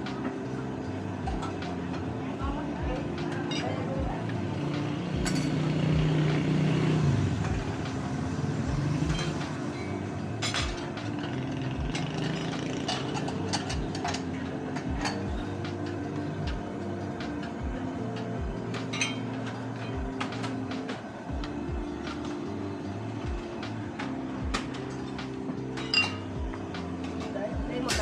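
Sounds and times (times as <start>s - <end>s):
vehicle engine running: 0.0s - 25.8s.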